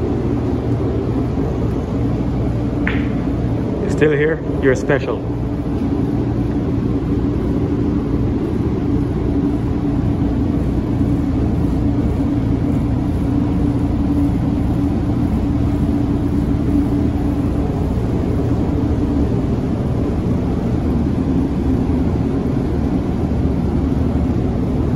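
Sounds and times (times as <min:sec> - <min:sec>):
air conditioning unit rumbling: 0:00.0 - 0:24.9.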